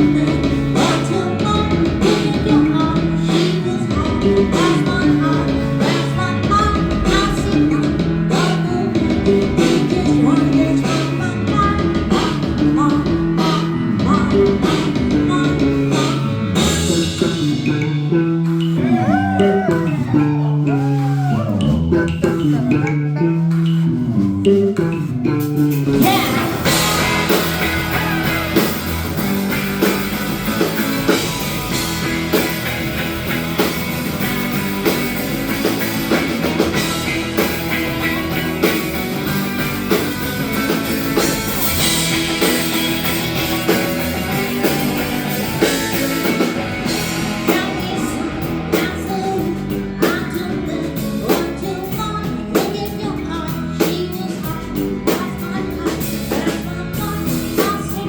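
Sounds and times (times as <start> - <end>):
person singing: 0.0 - 58.0
rock band playing: 0.0 - 58.0.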